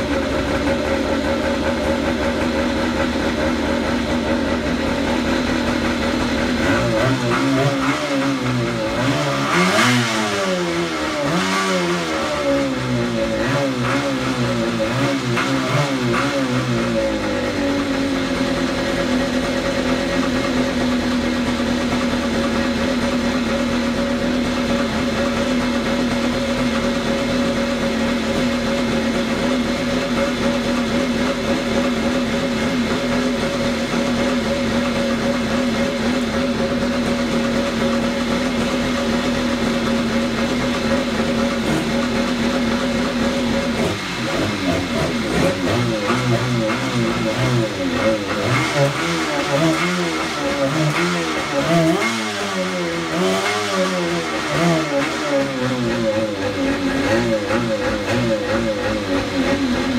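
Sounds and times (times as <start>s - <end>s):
two-stroke engine revving and idling: 0.0s - 59.9s.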